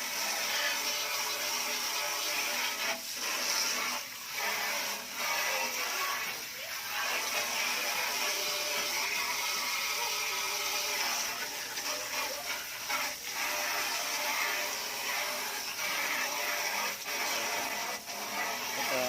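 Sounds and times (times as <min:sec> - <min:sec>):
water spraying: 0:00.0 - 0:19.0.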